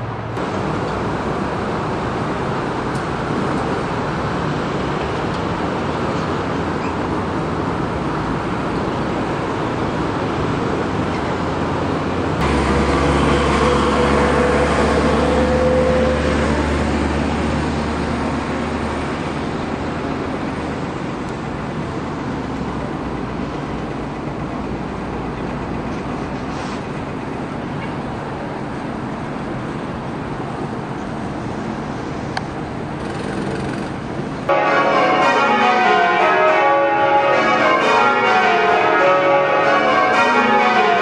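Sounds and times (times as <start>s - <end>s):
city traffic noise: 0.0s - 41.0s
heavy vehicle passing rumble: 0.0s - 41.0s.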